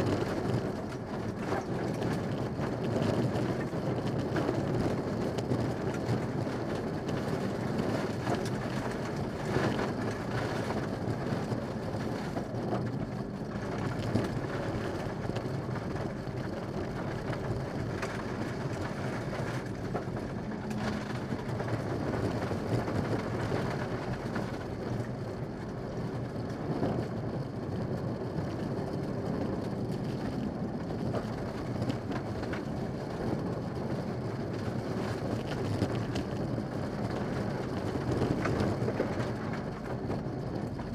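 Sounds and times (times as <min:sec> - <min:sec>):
car engine under load: 0:00.0 - 0:40.9.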